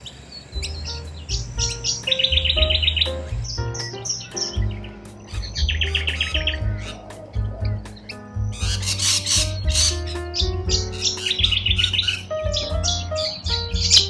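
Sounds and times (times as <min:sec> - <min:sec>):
background music with bass: 0:00.6 - 0:14.0
birds chirping: 0:00.6 - 0:14.0.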